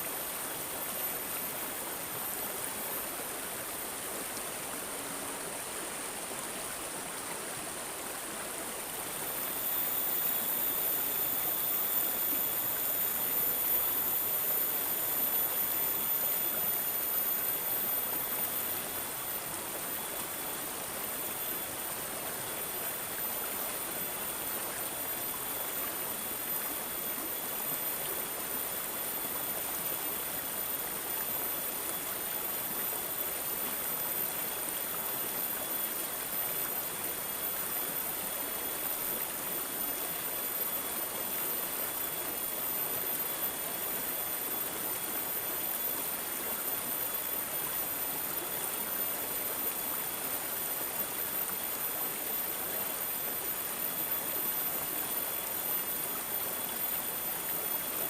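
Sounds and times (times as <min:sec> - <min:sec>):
water trickling and gurgling: 0:00.0 - 0:58.0.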